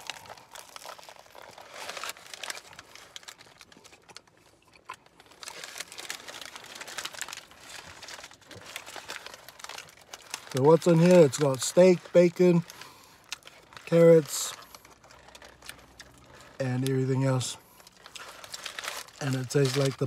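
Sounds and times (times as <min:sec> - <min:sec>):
paper bag crinkling: 0:00.0 - 0:04.3, 0:05.1 - 0:20.0
pie being chewed: 0:00.0 - 0:20.0.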